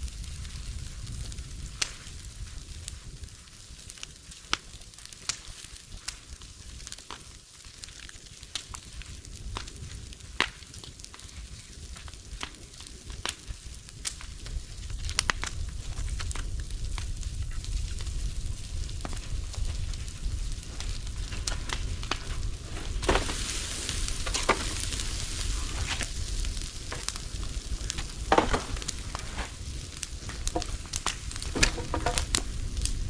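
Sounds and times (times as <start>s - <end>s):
bonfire crackling and popping: 0.0s - 33.0s.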